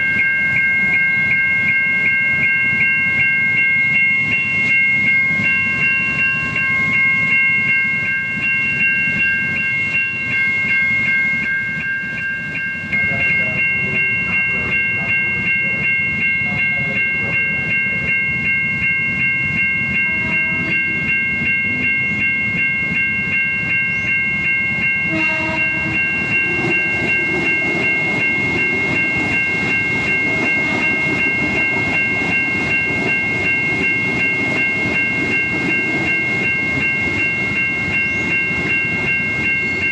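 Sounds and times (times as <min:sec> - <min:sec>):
level crossing warning bell: 0:00.0 - 0:39.9
train rumbling past: 0:00.0 - 0:39.9.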